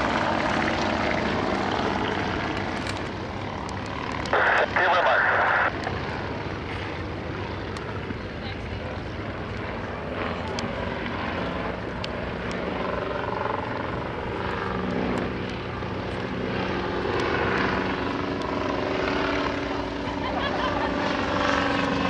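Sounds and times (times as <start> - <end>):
biplane engine droning overhead: 0.0 - 22.0.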